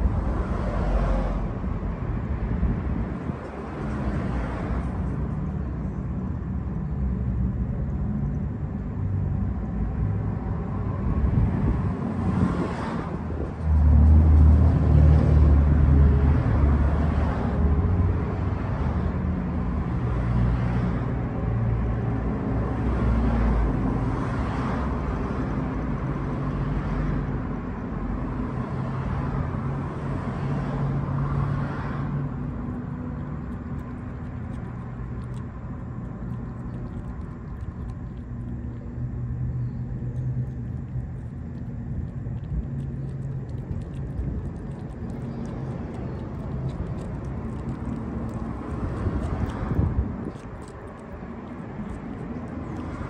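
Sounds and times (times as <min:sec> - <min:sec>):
vehicle engine rumbling: 0:00.0 - 0:53.0.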